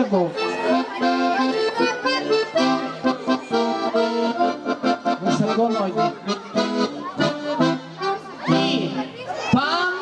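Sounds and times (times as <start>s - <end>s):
accordion playing folk dance tune: 0.0s - 10.0s.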